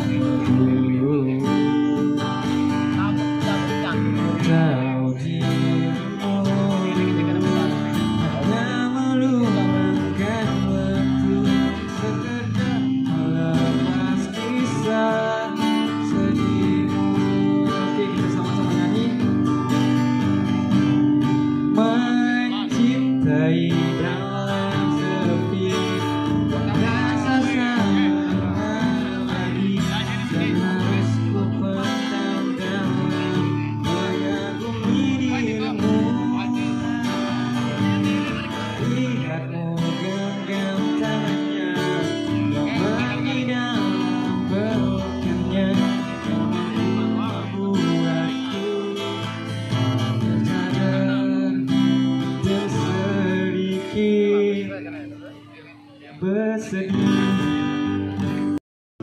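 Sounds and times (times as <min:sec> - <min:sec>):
acoustic guitar strumming: 0:00.0 - 0:58.6
man singing: 0:00.0 - 0:58.6.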